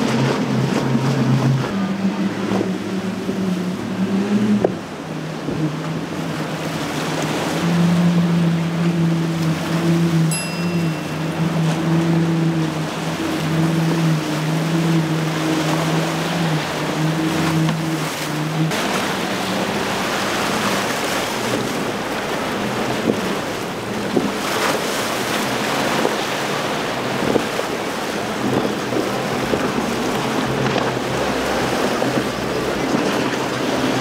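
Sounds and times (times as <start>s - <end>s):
outboard engines humming: 0.0s - 34.0s
waves and spray crashing: 6.2s - 34.0s.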